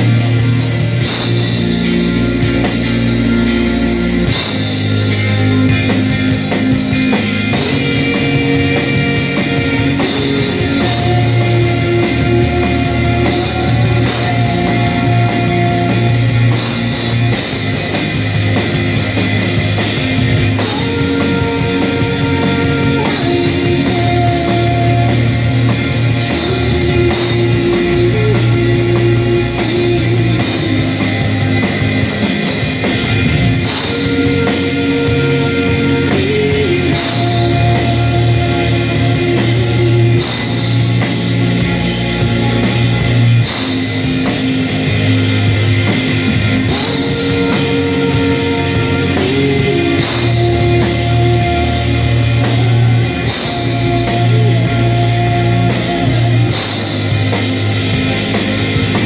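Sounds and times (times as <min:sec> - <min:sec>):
bass guitar: 0:00.0 - 0:59.0
drums: 0:00.0 - 0:59.0
electric guitars holding chords: 0:00.0 - 0:59.0.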